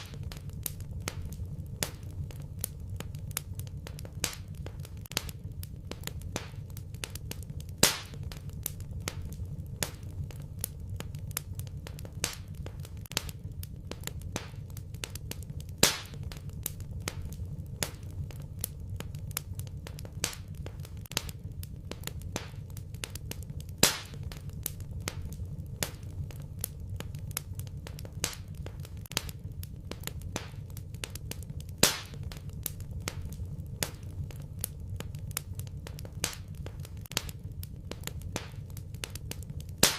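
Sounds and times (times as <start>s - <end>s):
loud fire pops: 0.0s - 39.9s
low rumble of burning: 0.0s - 39.9s
wood fire crackling: 0.0s - 39.9s.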